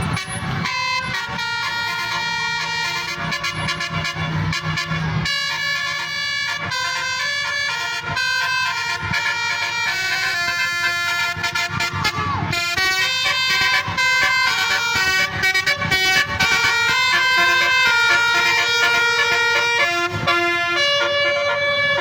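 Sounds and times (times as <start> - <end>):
multi-tone bus horn playing a tune: 0.0 - 22.0.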